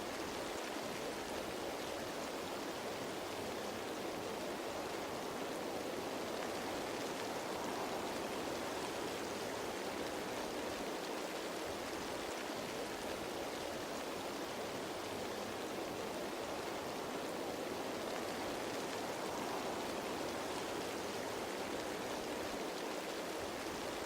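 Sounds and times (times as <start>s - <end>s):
rain falling on leaves: 0.0s - 24.0s.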